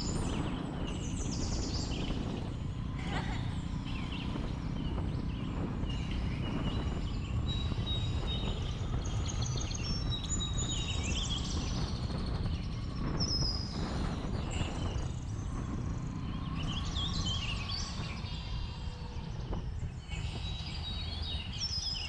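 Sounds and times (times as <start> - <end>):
birds chirping and whistling: 0.0 - 22.0
motorcycle engine rumbling: 0.0 - 22.0
wind: 0.0 - 22.0.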